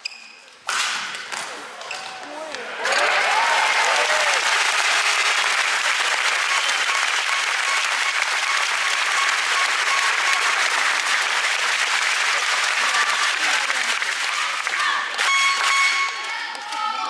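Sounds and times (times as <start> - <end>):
crowd applauding: 2.4 - 16.8.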